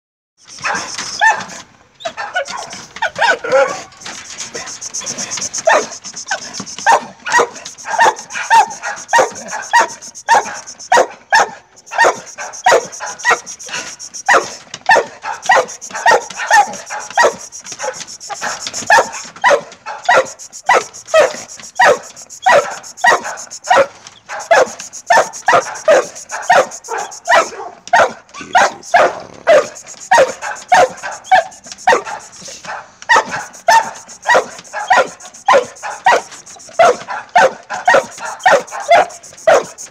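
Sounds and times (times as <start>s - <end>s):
dog barking: 0.6s - 3.9s, 4.5s - 39.8s.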